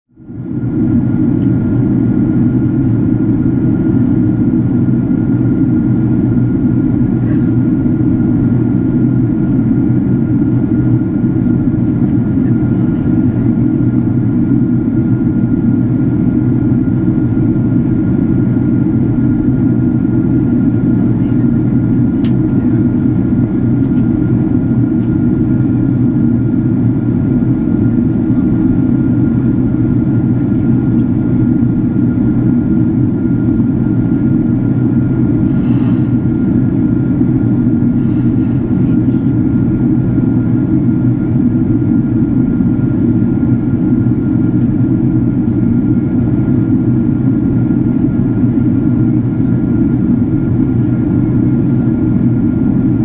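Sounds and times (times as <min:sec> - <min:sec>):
airliner cabin airflow and engine: 0:00.1 - 0:53.0.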